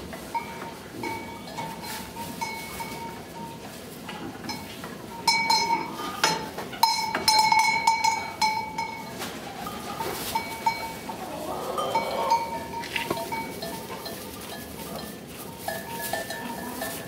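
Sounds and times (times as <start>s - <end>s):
sheep bells clanking: 0.0s - 17.0s.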